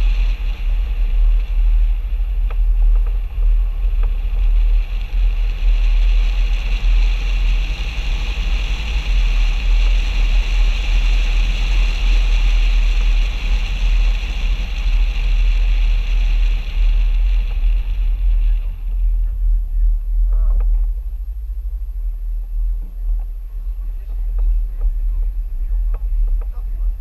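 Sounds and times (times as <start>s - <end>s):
tyre and road noise: 0.0s - 27.0s
wind rumble on microphone: 0.0s - 27.0s.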